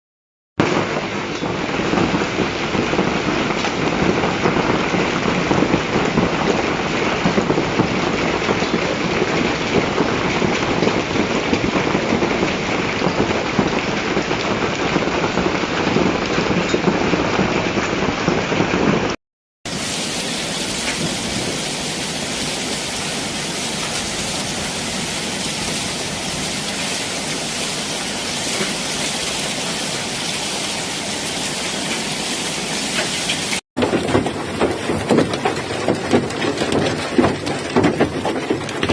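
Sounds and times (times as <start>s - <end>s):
hailstones pelting hard surfaces: 0.6s - 19.0s, 19.7s - 38.9s
heavy rain: 0.6s - 38.9s.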